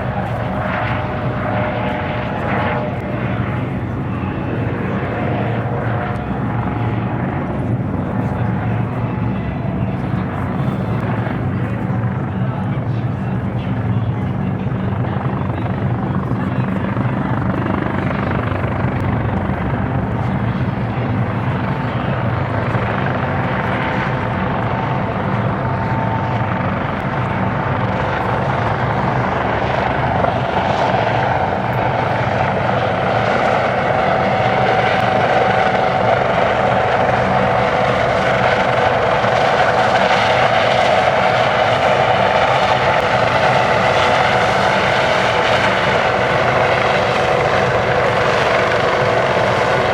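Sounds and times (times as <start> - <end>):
helicopter rotor beating: 0.0 - 49.9.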